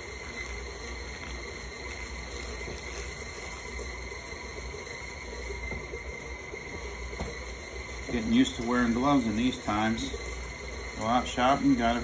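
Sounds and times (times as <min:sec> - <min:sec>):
stand mixer motor hum: 0:00.0 - 0:12.0.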